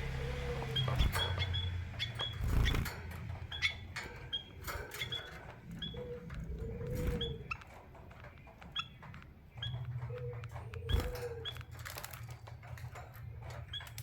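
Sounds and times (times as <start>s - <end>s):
finches chirping: 0.0s - 14.0s
low steady hum: 0.0s - 14.0s.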